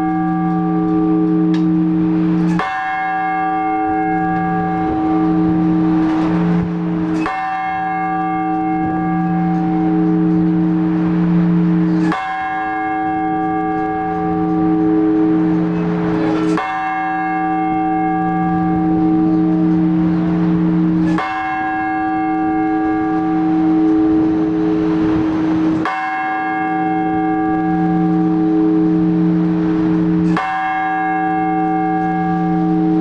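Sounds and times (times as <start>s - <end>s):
large church bell strokes: 0.0s - 33.0s.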